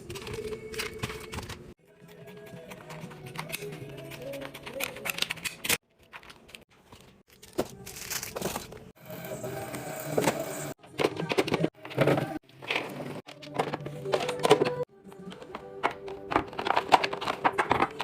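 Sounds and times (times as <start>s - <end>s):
faint music: 0.0s - 18.0s.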